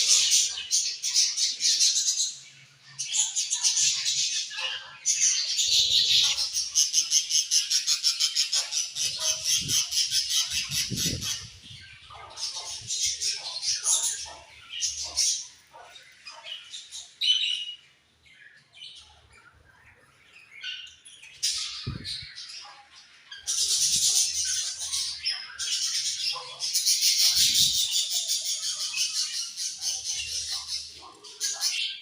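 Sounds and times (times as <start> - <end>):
budgerigars chirping: 0.0 - 17.8, 20.5 - 32.0.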